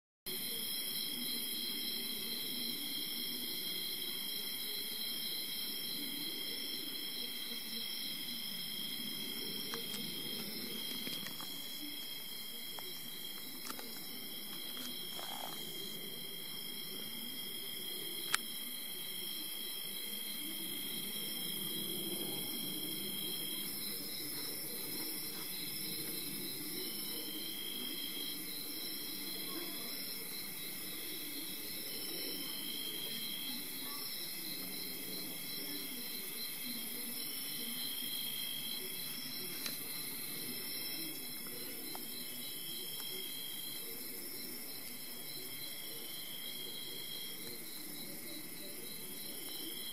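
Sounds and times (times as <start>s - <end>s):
crickets chirring: 0.3s - 49.9s.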